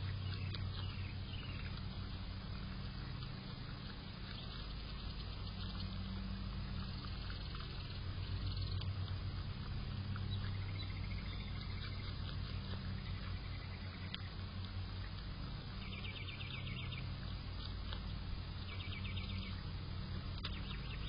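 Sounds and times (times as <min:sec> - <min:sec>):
faint crunching ticks: 0:00.0 - 0:21.0
groundhog chewing food: 0:00.0 - 0:21.0
steady low hum: 0:00.0 - 0:21.0.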